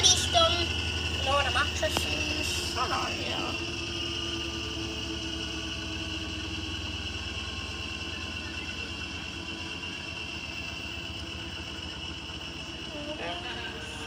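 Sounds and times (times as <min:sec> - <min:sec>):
washing machine spinning: 0:00.0 - 0:14.0.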